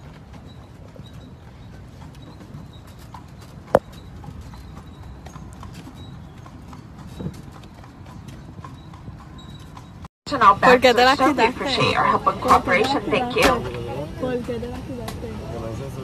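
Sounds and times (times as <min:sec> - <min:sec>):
horse hooves clip-clopping on pavement: 0:00.0 - 0:16.0.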